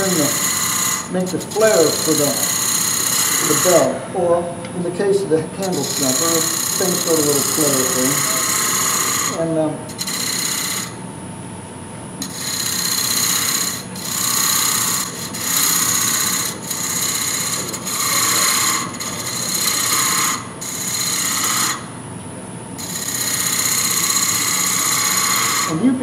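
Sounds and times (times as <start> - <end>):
lathe tool shearing wood shavings: 0.0 - 4.2, 4.9 - 11.0, 12.2 - 21.9, 22.8 - 26.0.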